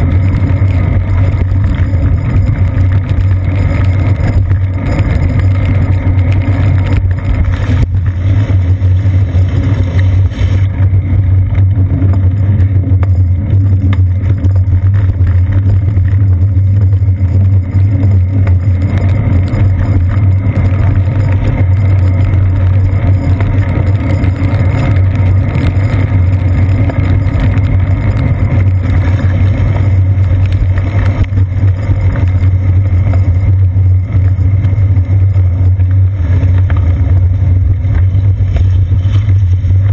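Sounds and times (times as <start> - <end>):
bicycle riding rumble: 0.0 - 39.9
car traffic: 0.0 - 39.9
wind: 0.0 - 39.9.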